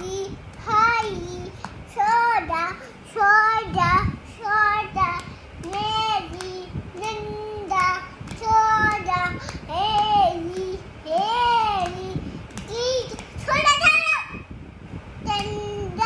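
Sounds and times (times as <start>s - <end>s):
girl singing wordless tune: 0.0s - 14.6s, 15.2s - 16.0s.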